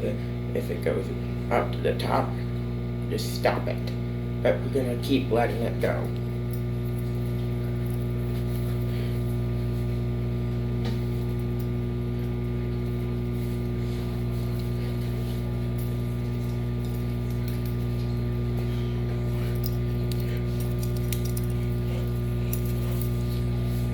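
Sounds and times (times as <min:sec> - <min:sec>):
microwave oven humming: 0:00.0 - 0:23.9.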